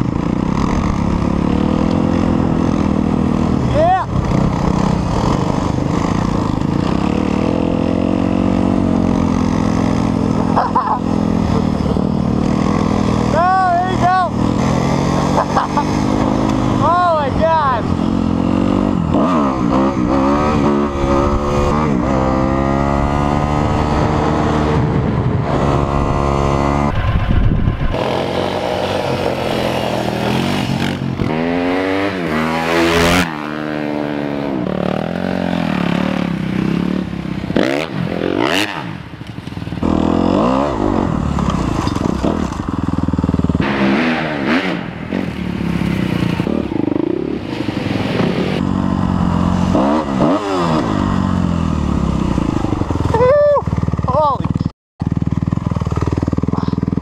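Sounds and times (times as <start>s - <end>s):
vehicle passing by: 0.0s - 53.4s
dirt bike engine revving: 0.0s - 57.0s.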